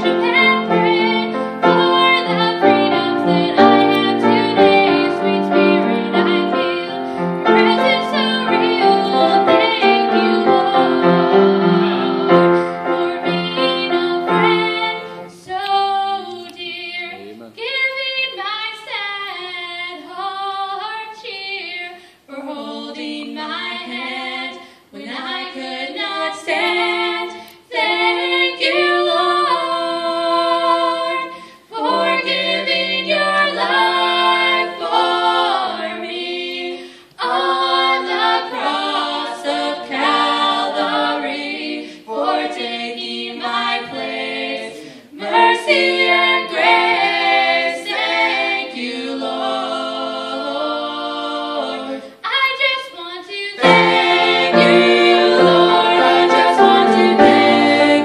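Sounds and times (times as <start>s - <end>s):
vocal trio singing gospel: 0.0s - 58.0s.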